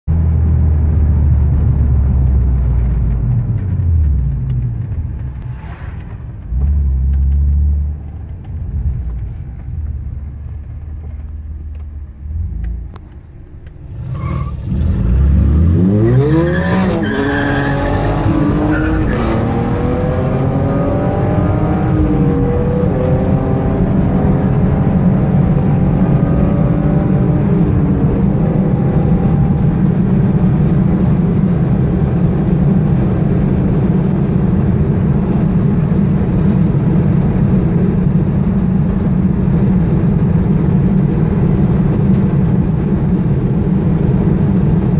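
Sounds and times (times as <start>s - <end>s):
car engine revving: 0.1s - 44.9s
road and wind roar: 0.1s - 44.9s.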